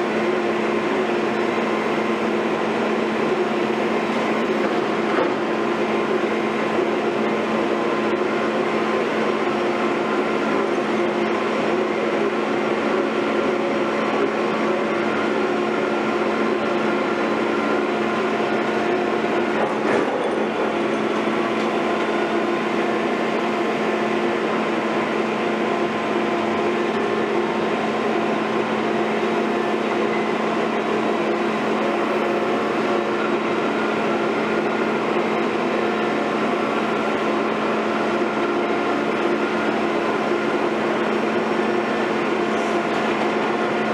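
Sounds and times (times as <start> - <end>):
diesel engine running steadily: 0.0 - 43.9.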